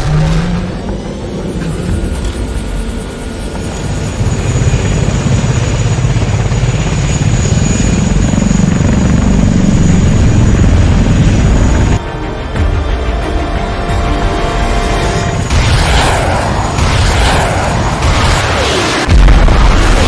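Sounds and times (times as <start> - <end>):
aircraft engine and propeller rumble: 0.0 - 20.0.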